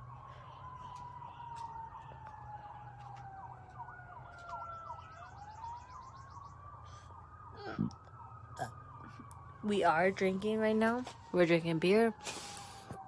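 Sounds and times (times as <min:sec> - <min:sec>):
faint siren wailing: 0:00.0 - 0:13.0
siren yelp: 0:00.0 - 0:13.0.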